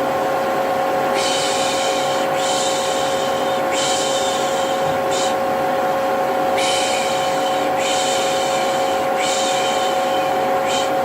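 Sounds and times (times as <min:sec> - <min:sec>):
vacuum cleaner running: 0:01.1 - 0:11.0.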